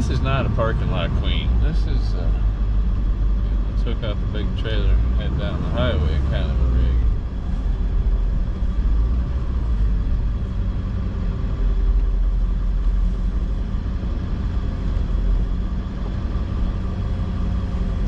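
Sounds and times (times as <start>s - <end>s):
diesel truck engine rumble: 0.0s - 18.0s
road noise: 0.0s - 18.0s.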